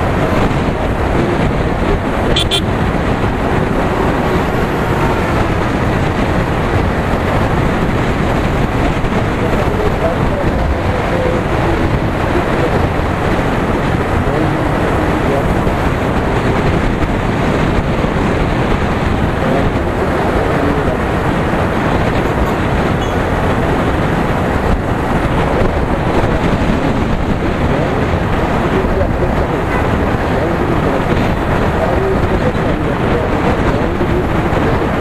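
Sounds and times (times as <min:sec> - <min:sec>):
motorcycle engine running: 0:00.0 - 0:31.8
road noise: 0:00.0 - 0:35.0
wind rushing over microphone: 0:00.0 - 0:35.0.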